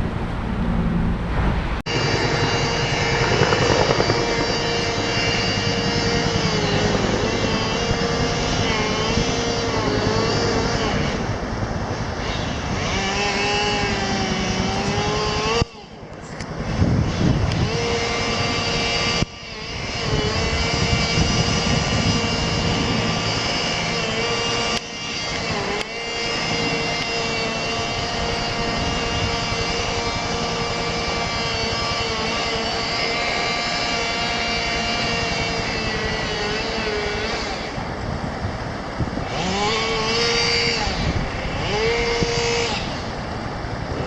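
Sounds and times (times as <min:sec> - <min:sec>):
helicopter rotor chop: 0:00.0 - 0:44.0
helicopter turbine whine: 0:00.0 - 0:44.0.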